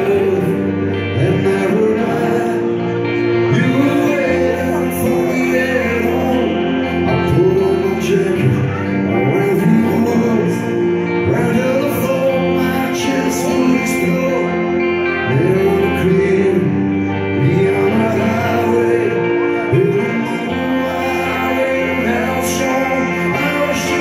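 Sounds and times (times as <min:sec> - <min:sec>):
electric guitars: 0:00.0 - 0:24.0
man singing lead vocal: 0:00.0 - 0:24.0.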